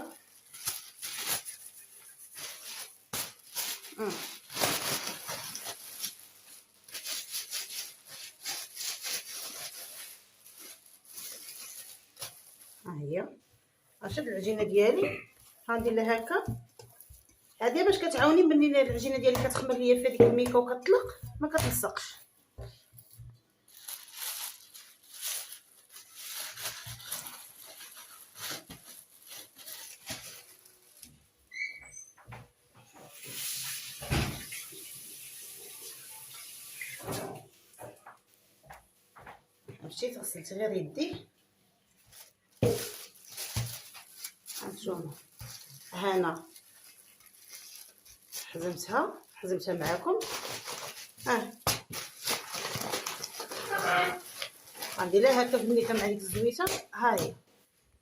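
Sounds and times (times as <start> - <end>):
plastic bag rustling: 0.0 - 31.5, 32.8 - 57.8.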